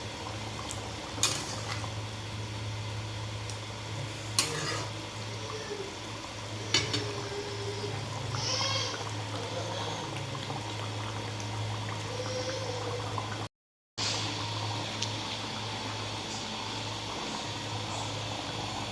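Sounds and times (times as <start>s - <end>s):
gravy bubbling in a pan: 0.0s - 18.9s.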